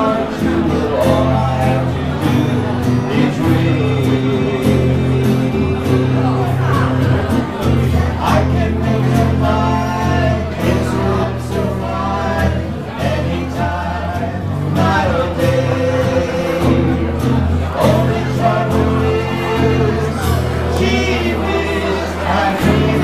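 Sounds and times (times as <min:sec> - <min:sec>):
strummed acoustic guitar: 0:00.0 - 0:23.0
two men singing: 0:00.0 - 0:23.0.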